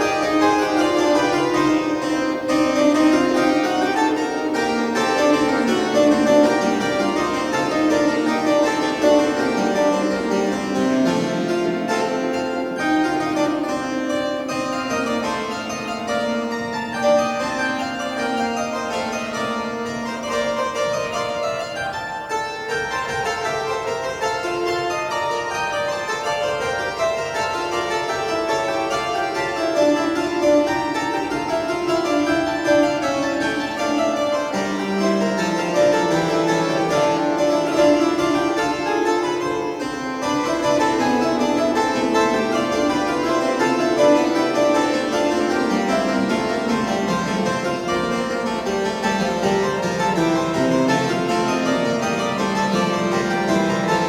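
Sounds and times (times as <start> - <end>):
pipe organ playing: 0.0 - 22.6, 23.6 - 54.0.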